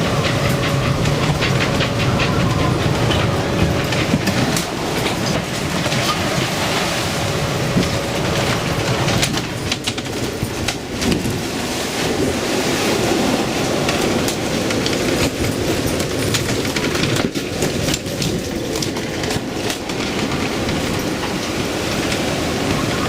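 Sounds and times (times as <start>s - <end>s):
sharp knocks and rattles: 0.0s - 6.9s, 7.6s - 22.3s
heavy seas: 0.0s - 23.0s
storm-force wind roaring: 0.0s - 23.0s.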